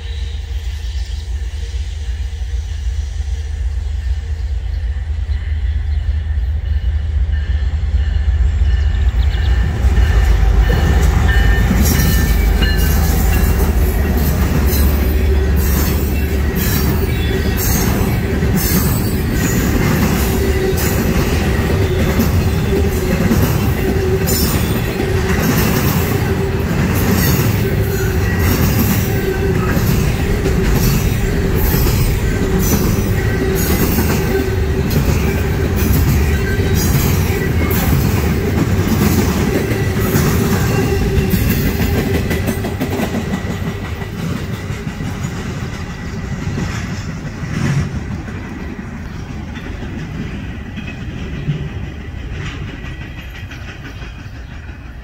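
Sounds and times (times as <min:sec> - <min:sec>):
train wheel squeal: 0:00.0 - 0:47.1, 0:48.7 - 0:55.0
diesel locomotive rumble: 0:00.0 - 0:55.0
train wheels clicking over rail joints: 0:08.3 - 0:55.0.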